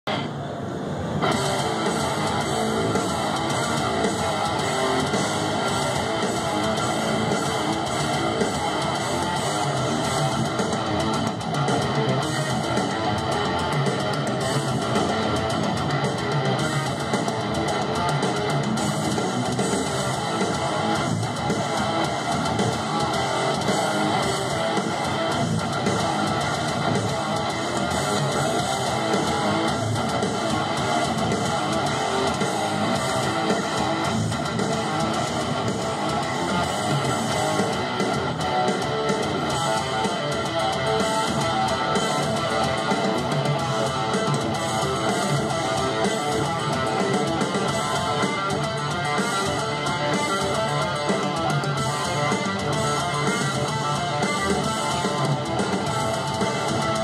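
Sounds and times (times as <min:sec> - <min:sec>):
heavy metal electric guitars: 0:00.0 - 0:57.0.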